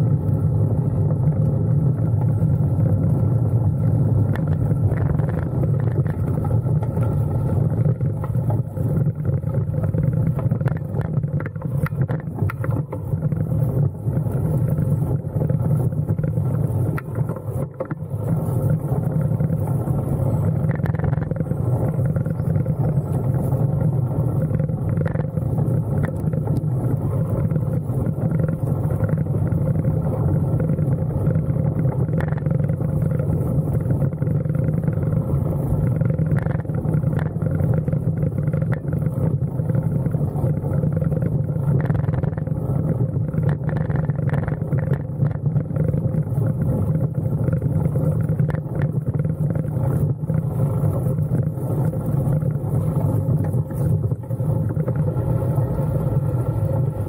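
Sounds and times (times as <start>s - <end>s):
vehicle engine drone: 0.0s - 57.0s.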